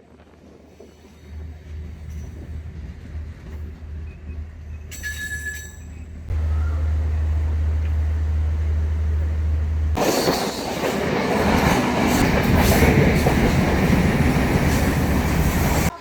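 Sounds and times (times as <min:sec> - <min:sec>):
rushing rattling rail noise: 0:00.0 - 0:16.0
train rumbling: 0:00.0 - 0:16.0.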